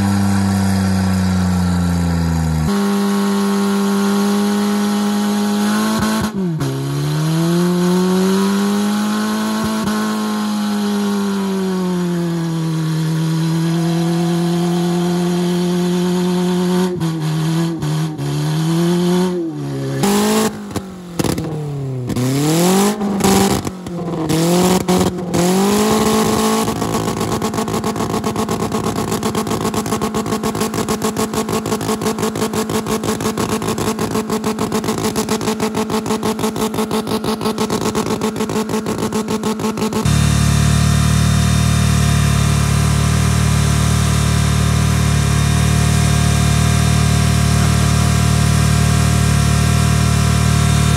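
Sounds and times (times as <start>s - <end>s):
car engine revving in burnout: 0.0s - 50.9s
second car engine at high revs: 0.0s - 50.9s.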